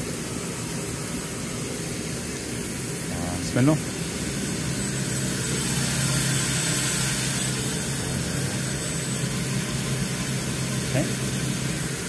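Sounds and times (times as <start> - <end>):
grinder machine hum: 0.0 - 12.0
even hiss: 0.1 - 12.0.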